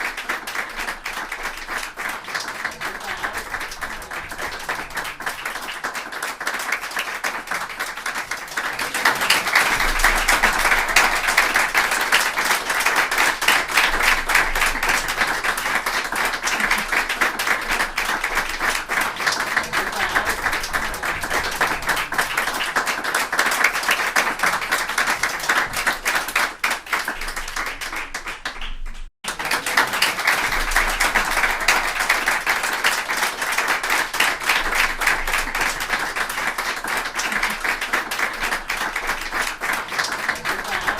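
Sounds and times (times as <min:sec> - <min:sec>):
group applauding: 0:00.0 - 0:40.9.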